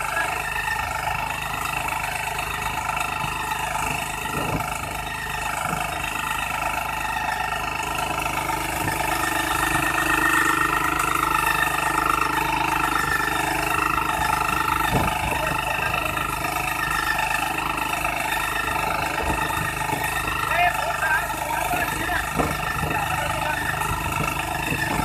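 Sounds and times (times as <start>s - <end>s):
power weeder engine running: 0.0s - 25.0s.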